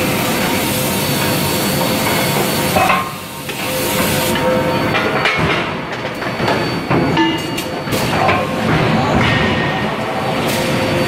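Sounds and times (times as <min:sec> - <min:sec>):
machinery hum and hiss: 0:00.0 - 0:11.0.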